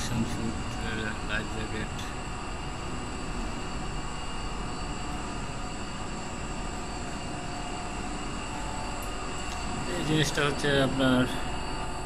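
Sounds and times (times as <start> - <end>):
faint steady whining tones: 0.0 - 12.0
ship machinery low rumble: 0.0 - 12.0.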